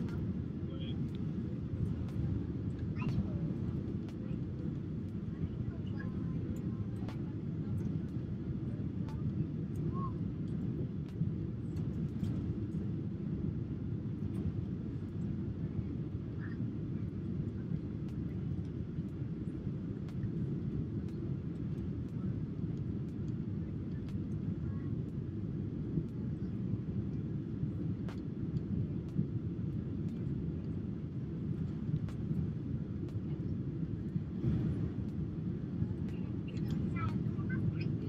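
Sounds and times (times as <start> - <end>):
jet cabin engine roar: 0.0 - 38.0.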